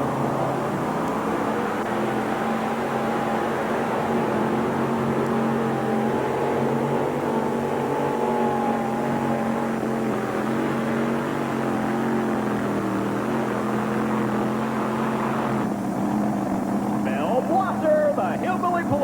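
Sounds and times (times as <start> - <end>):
tractor engine running flat out: 0.0 - 19.0.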